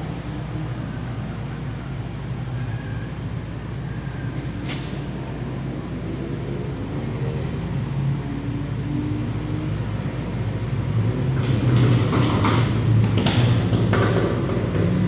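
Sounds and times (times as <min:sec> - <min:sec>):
race car engines rumbling: 0:00.0 - 0:15.0.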